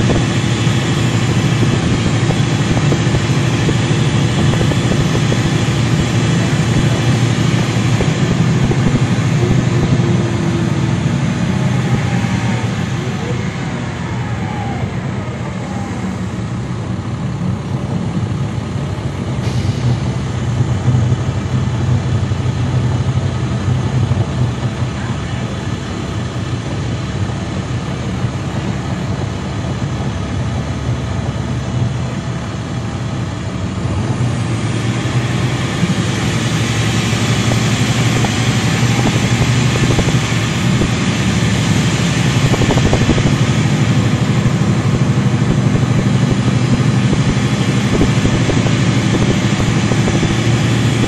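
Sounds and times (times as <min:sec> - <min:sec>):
bus diesel engine drone: 0:00.0 - 0:51.0.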